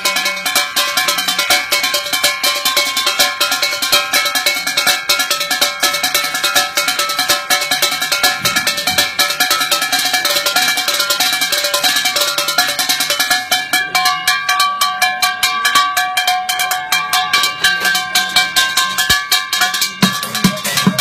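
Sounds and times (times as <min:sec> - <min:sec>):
percussion on pots and tins: 0:00.0 - 0:21.0.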